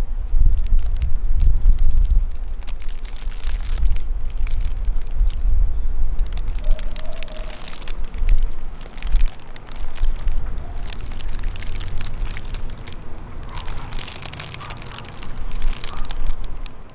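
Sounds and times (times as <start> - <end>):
wind buffeting microphone: 0.0 - 16.9
plastic bag crinkling: 0.4 - 5.5, 6.1 - 16.9.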